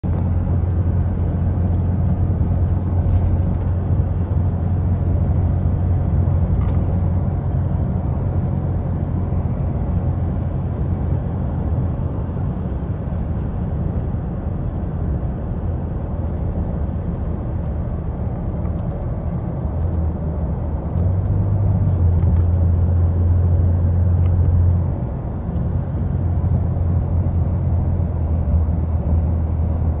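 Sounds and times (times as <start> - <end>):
road and engine noise inside car: 0.0 - 30.0.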